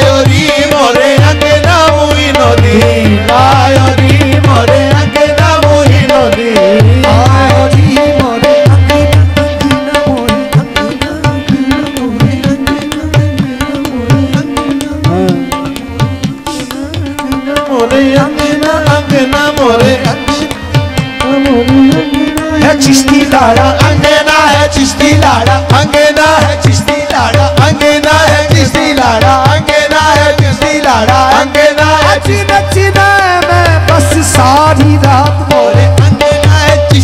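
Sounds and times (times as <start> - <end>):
harmonium drone and melody: 0.0 - 37.0
tabla rhythm: 0.0 - 37.0
wordless singing runs: 0.0 - 37.0.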